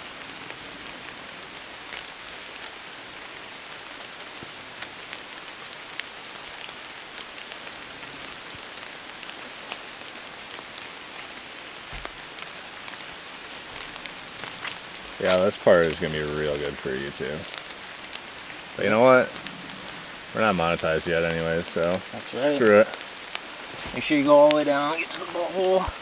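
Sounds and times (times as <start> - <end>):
rain patter: 0.0 - 26.0.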